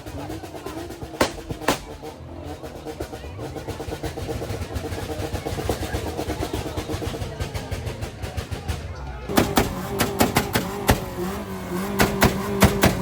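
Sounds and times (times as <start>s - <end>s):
car engine revving: 0.0s - 8.4s, 9.1s - 13.0s.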